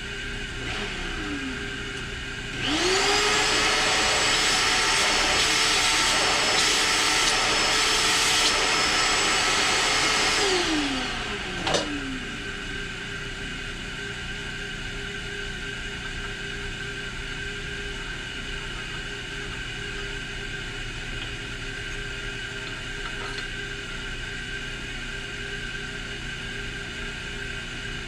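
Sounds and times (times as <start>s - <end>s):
small vacuum cleaner running: 0.0s - 28.0s.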